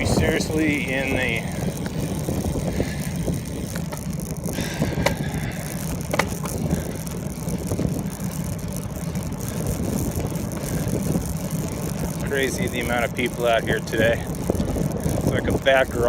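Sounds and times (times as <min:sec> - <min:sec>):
bicycle clicks or rattles: 0:00.0 - 0:16.0
bicycle riding rumble: 0:00.0 - 0:16.0.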